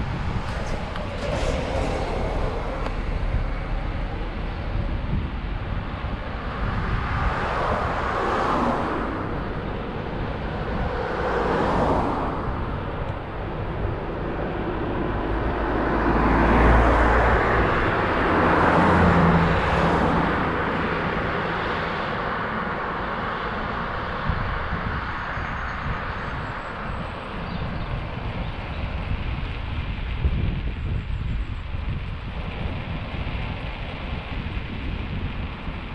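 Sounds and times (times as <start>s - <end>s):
steady low rumble: 0.0s - 35.9s
vehicles passing by: 0.0s - 35.9s.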